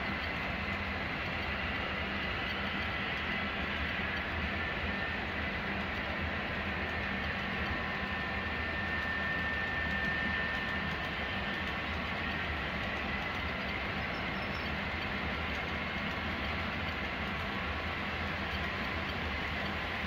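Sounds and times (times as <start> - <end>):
model train wheels rumbling on rails: 0.0 - 20.0.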